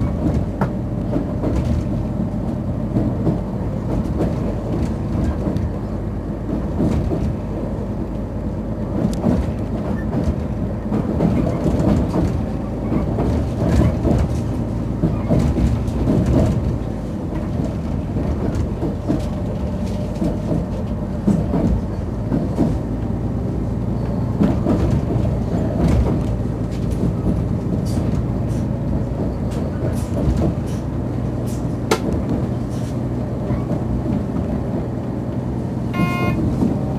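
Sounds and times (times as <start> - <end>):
train rumbling on the track: 0.0 - 36.9
wheels clicking on rails: 0.0 - 36.9.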